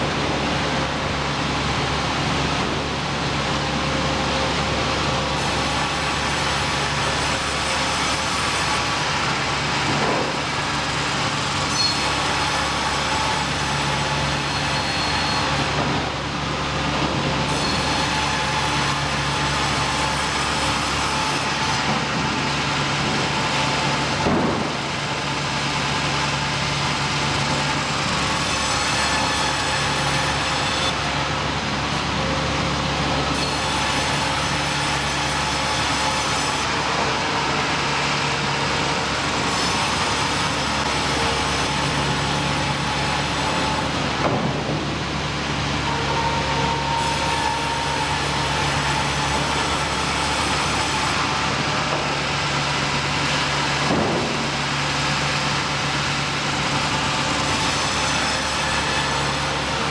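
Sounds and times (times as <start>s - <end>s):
sawmill machinery din: 0.0s - 59.9s.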